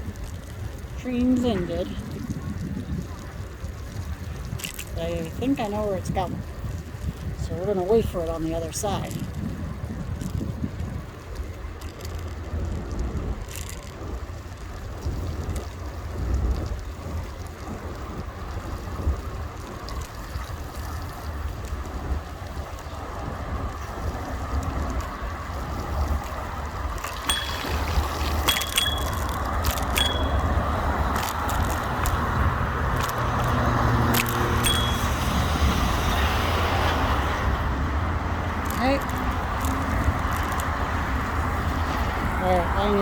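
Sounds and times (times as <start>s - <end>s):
scooter rattling and jangling: 0.0s - 43.0s
wind rumble on microphone: 0.0s - 43.0s.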